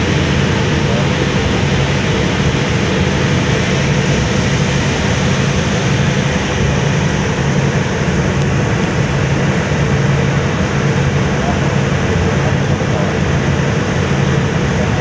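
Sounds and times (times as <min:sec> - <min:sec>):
ship engine droning: 0:00.0 - 0:15.0
water rushing past hull: 0:00.0 - 0:15.0.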